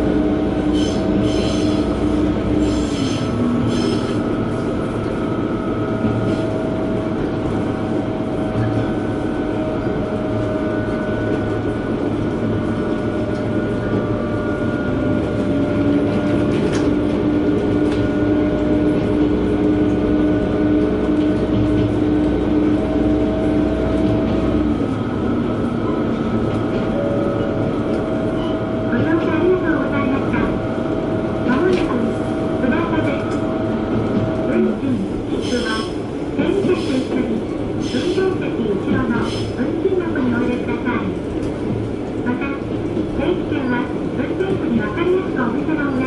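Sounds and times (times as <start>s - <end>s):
engine and transmission hum: 0.0s - 45.8s
railcar rumble and rolling noise: 0.0s - 46.0s.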